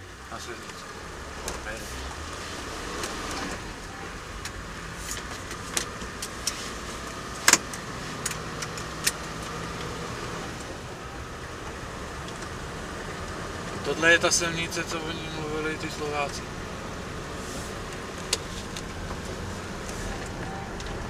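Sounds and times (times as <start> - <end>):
car driving at low speed: 0.0 - 21.0.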